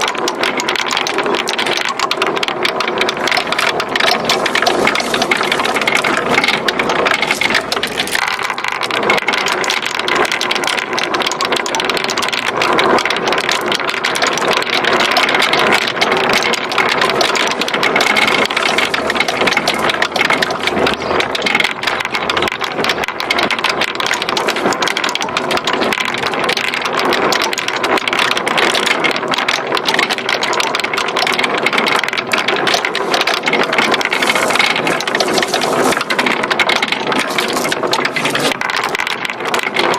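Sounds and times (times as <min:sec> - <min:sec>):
marbles rattling down wooden run: 0:00.0 - 0:39.9.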